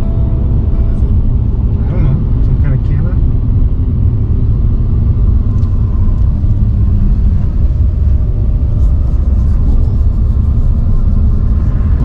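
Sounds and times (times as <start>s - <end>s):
road and engine rumble in vehicle: 0.0s - 12.0s.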